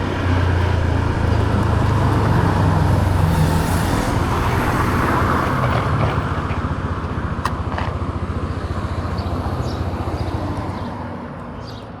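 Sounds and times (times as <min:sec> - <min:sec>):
motor scooter engine running: 0:00.0 - 0:10.3
road noise: 0:00.0 - 0:12.0.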